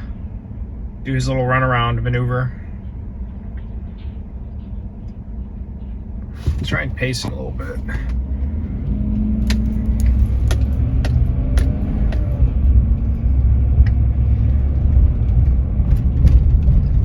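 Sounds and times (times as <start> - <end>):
moving vehicle rumble: 0.0 - 17.0.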